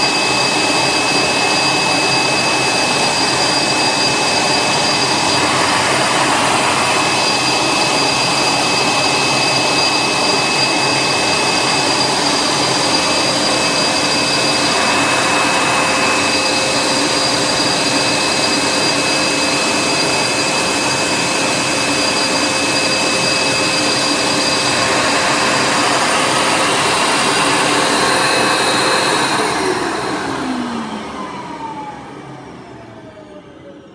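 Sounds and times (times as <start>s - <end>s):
machine rushing noise: 0.0s - 30.9s
milling machine whining: 0.0s - 33.9s.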